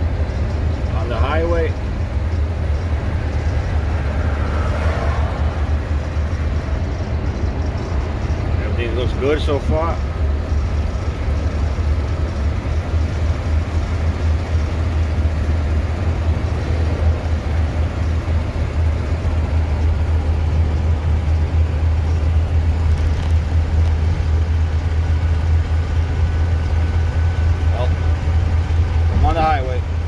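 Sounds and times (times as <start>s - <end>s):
engine droning: 0.0s - 30.0s
road noise: 0.0s - 30.0s.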